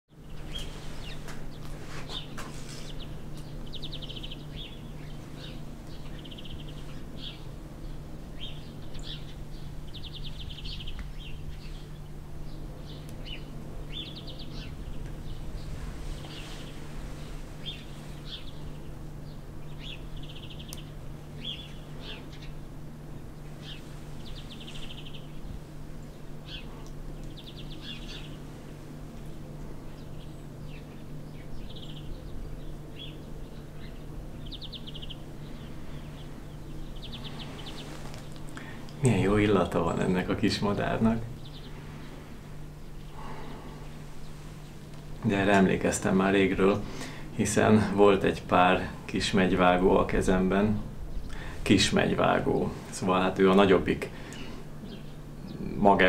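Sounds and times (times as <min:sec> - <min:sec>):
songbirds chirping and trilling: 0:00.1 - 0:56.0
steady low hum: 0:00.1 - 0:56.0.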